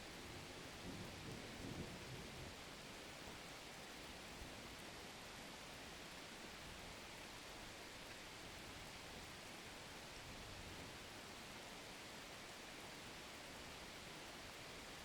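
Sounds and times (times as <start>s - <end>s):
faint rain hiss: 0.0s - 15.0s.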